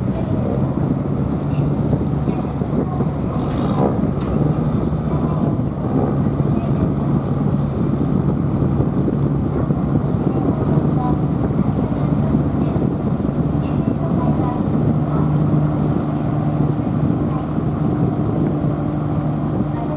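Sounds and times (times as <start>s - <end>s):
boat engine humming: 0.0s - 19.9s
wind buffeting microphone: 0.0s - 19.9s.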